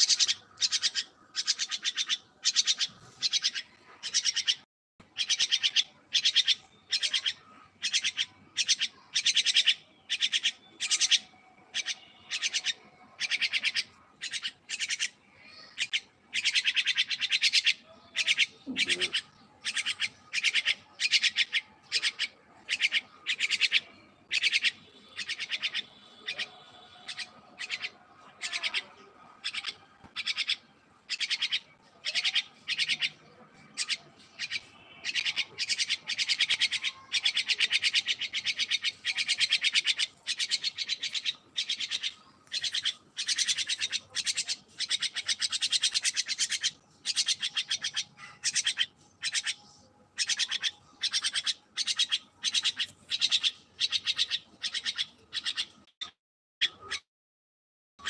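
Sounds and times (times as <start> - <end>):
bird harsh rattling calls: 0.0 - 56.0.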